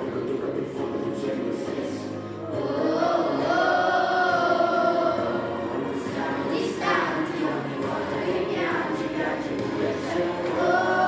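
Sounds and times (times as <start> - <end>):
choir singing over pop music: 0.0 - 11.0.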